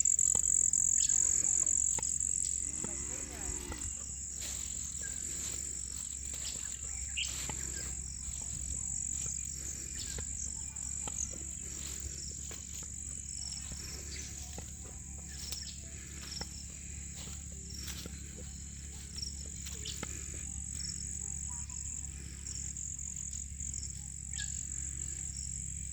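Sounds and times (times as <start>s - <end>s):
faint chirps: 0.0s - 25.9s
high-pitched insect chorus: 0.0s - 25.9s
low rumble: 0.0s - 25.9s.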